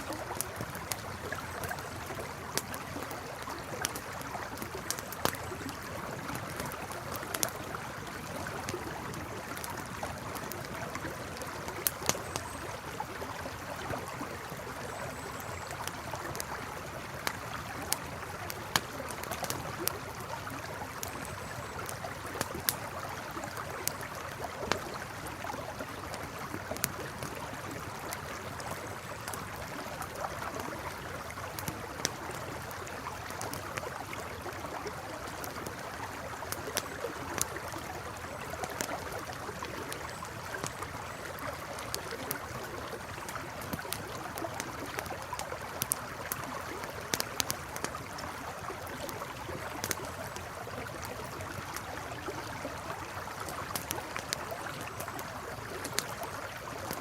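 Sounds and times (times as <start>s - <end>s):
campfire crackling: 0.0s - 57.0s
river water flowing and gurgling: 0.0s - 57.0s.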